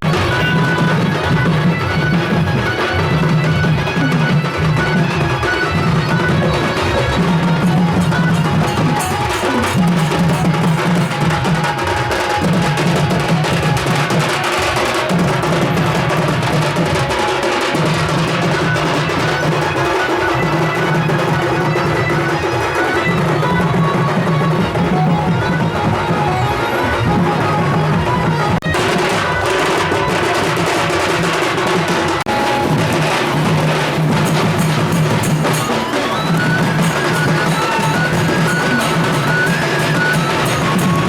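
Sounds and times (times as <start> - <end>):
loud drum-driven music: 0.0 - 41.0.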